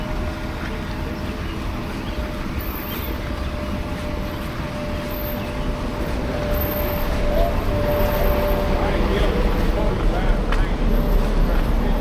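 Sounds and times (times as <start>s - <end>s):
streetcar interior rumble and hiss: 0.0s - 12.0s
thin steady whine: 0.0s - 12.0s.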